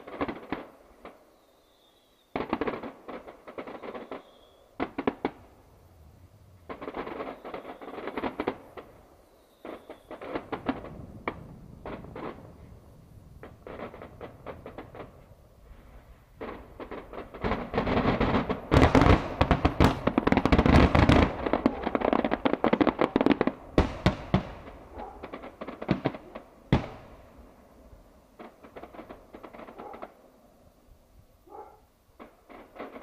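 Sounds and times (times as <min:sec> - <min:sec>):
fireworks crackling pops: 0:00.0 - 0:05.7, 0:06.6 - 0:33.0.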